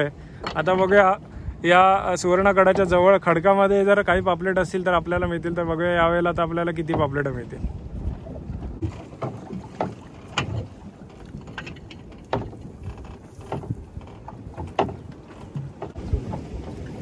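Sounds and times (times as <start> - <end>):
water slapping against boat hull: 0.0 - 17.0
wind buffeting microphone: 0.0 - 17.0.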